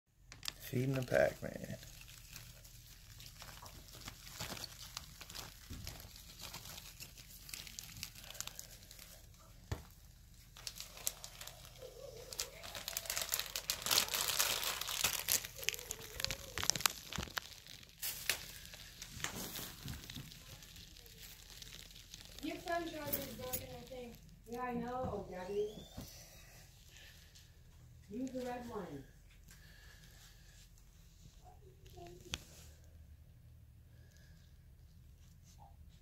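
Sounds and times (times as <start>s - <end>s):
plastic crinkling and rustling: 0.2s - 32.9s.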